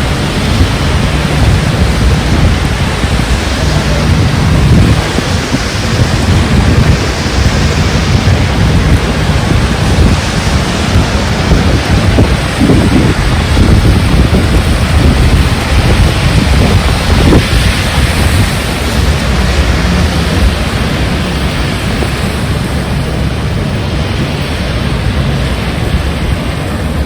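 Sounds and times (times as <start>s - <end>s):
heavy rain: 0.0s - 27.0s
wind buffeting microphone: 0.0s - 27.0s.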